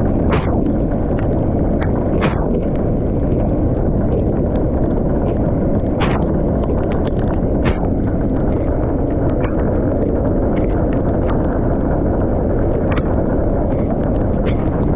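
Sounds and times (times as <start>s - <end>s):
hail and rain roaring: 0.0s - 14.9s.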